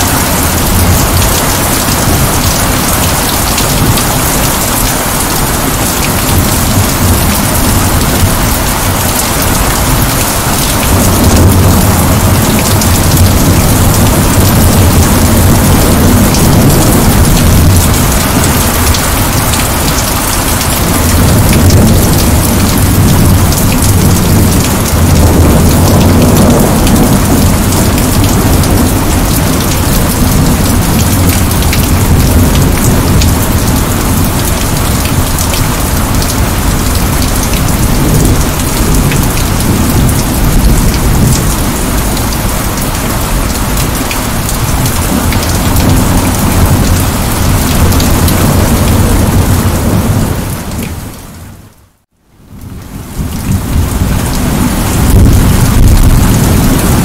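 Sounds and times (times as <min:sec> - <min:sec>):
heavy steady rain: 0:00.0 - 0:57.0.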